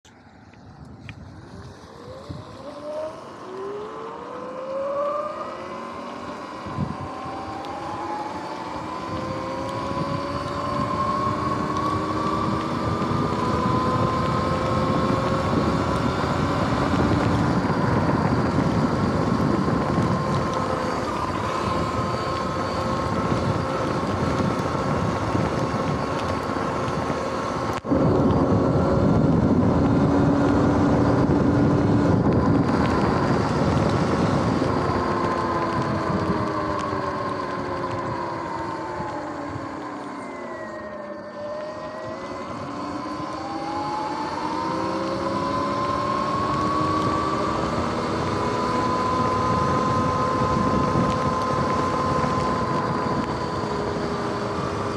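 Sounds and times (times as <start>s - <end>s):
wind: 0.0s - 54.9s
electric bike motor whining: 0.1s - 54.9s.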